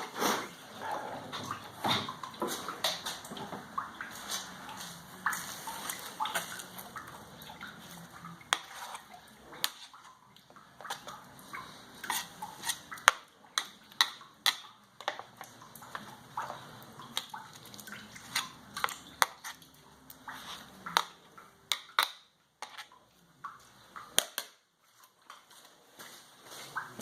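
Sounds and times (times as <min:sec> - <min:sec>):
wet squelching pulp: 0:00.0 - 0:27.0.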